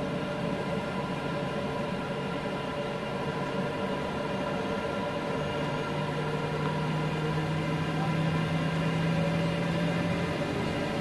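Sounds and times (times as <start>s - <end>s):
jet engines idling in cabin: 0.0s - 11.0s.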